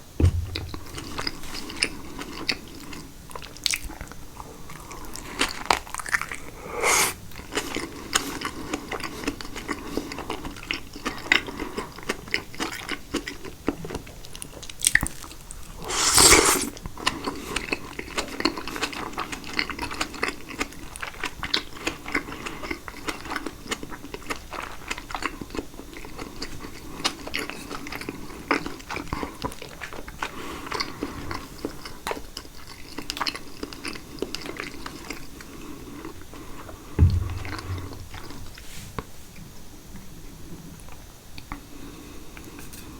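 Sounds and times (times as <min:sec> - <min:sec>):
close-miked chewing: 0:00.9 - 0:36.8.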